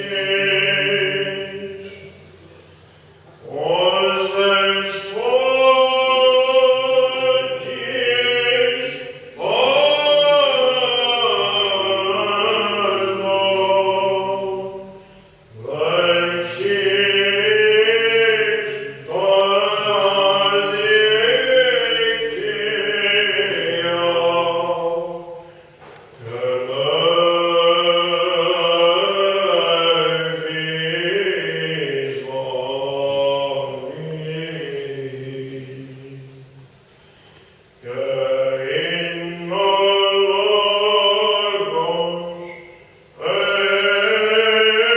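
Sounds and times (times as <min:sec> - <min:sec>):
church chant singing: 0:00.0 - 0:02.4, 0:03.2 - 0:36.7, 0:37.7 - 0:44.9.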